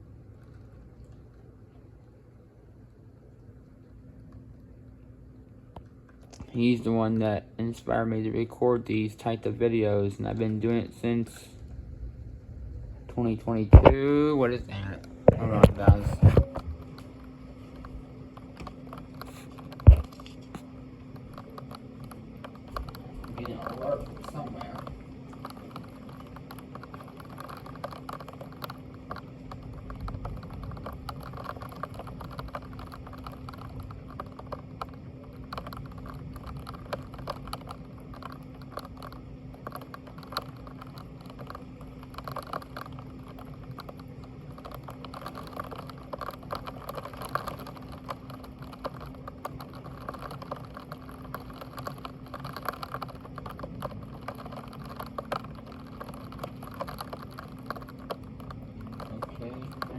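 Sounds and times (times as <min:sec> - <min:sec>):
constant low hum: 0:00.0 - 0:59.9
rain pattering: 0:00.0 - 0:59.9.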